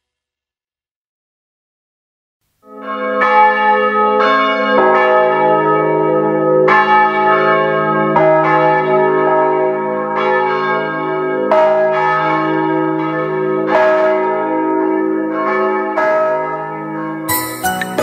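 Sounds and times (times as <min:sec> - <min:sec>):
church bells ringing: 0:02.6 - 0:18.0.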